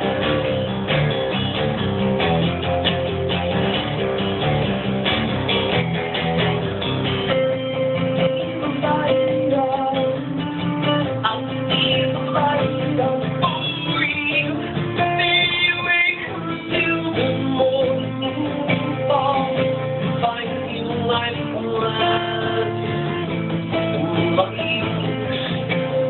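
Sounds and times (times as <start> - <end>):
live band music: 0.0 - 26.0
strummed acoustic guitar: 0.0 - 26.0.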